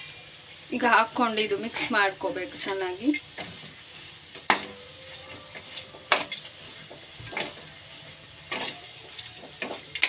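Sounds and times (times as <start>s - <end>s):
food sizzling in a pan: 0.0s - 10.0s
metal spatula scraping a pan: 1.6s - 10.0s.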